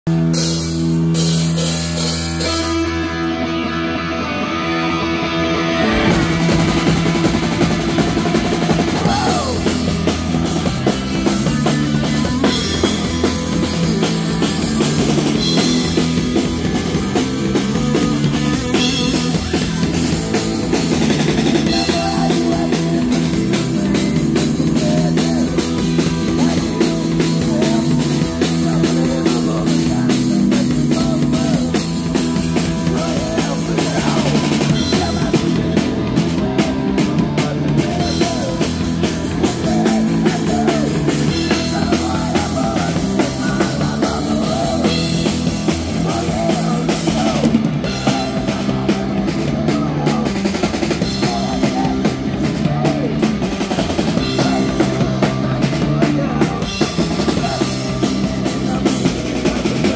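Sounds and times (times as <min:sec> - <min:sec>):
live punk rock band: 0:00.0 - 0:59.9
electric guitar notes: 0:00.1 - 0:49.6
drum kit playing: 0:00.1 - 0:59.9.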